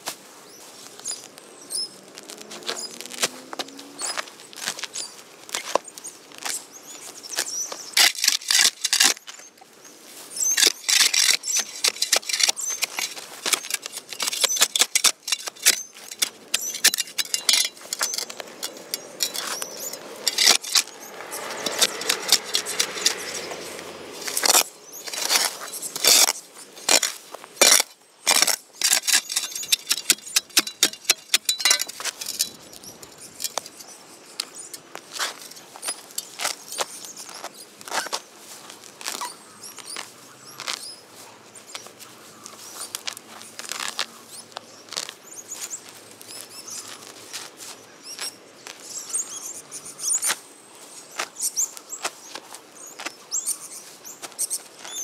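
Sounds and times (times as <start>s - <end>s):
grass tearing from soil: 2.0s - 6.6s, 7.3s - 9.5s, 10.2s - 40.9s, 41.6s - 49.2s.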